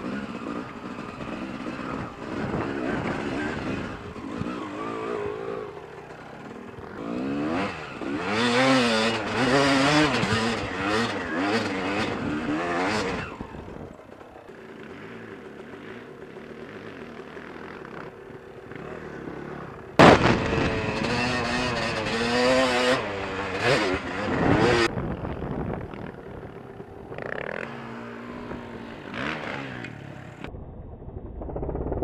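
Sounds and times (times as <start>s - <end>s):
dirt bike engine revving: 0.0s - 30.5s.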